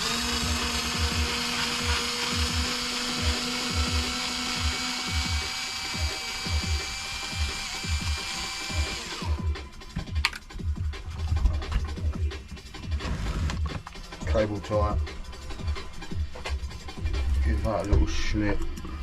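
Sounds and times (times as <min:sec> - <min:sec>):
background music with beat: 0:00.0 - 0:19.0.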